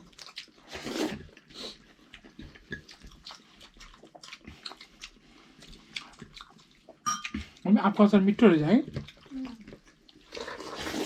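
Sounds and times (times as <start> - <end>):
wet chewing and smacking: 0.0 - 7.7, 8.8 - 11.0.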